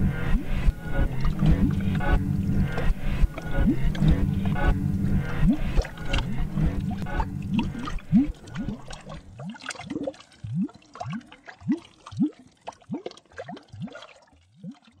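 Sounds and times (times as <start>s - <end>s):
water bubbling in bloops: 0.4s - 15.0s.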